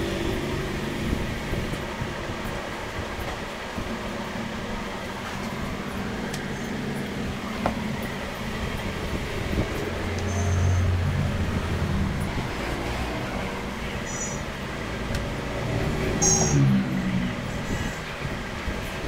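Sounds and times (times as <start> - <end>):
machine hum and rumble: 0.0 - 19.0.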